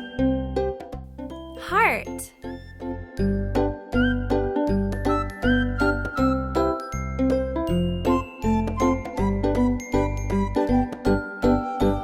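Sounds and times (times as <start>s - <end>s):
upbeat tinkling background music: 1.4s - 12.0s.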